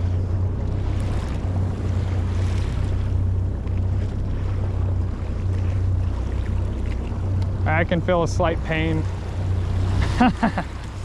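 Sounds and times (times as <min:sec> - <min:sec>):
boat engine humming: 0:00.0 - 0:11.0
water around hull: 0:00.0 - 0:11.0.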